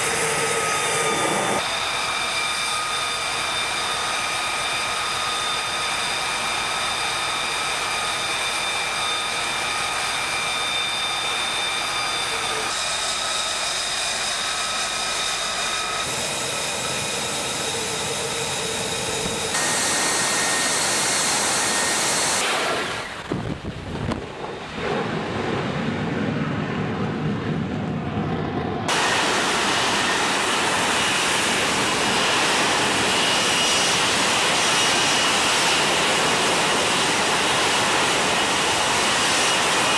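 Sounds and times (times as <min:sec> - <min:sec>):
high turbine whine: 0:00.0 - 0:39.9
jet engine roar: 0:00.0 - 0:39.9.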